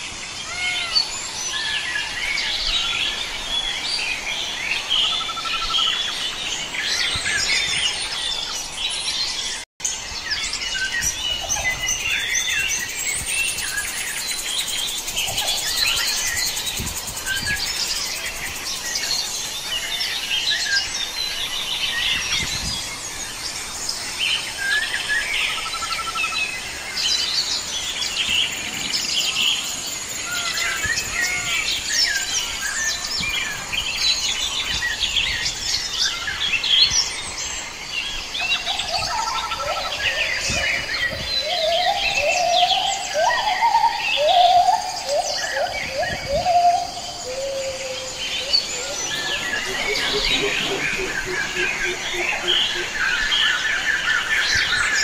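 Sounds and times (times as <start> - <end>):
forest birds singing and calling: 0.0 - 55.0.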